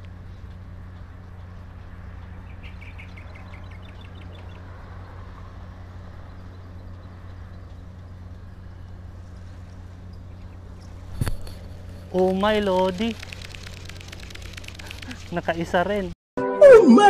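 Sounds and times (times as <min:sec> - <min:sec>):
bird chirping: 0:00.0 - 0:16.1
steady low hum: 0:00.0 - 0:16.2.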